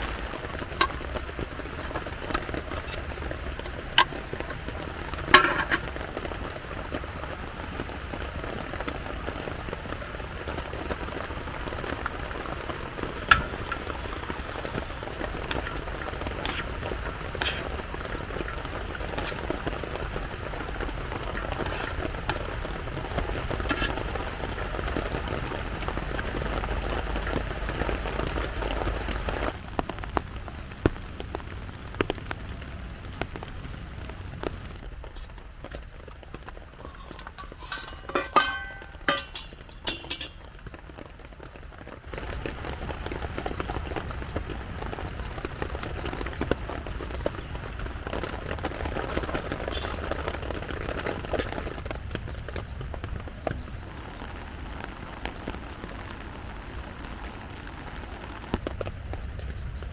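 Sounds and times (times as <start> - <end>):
rain on a tent: 0.0 - 59.9.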